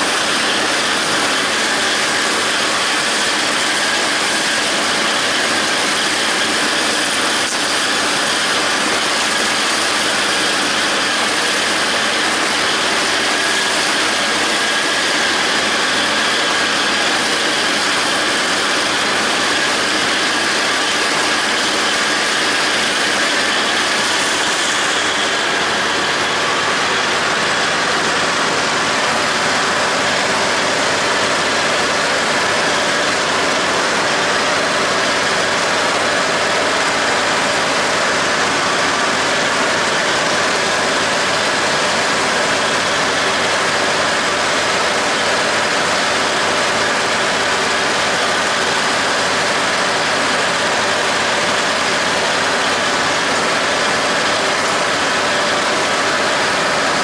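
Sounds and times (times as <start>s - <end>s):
tractor diesel engine and mower: 0.0s - 57.0s.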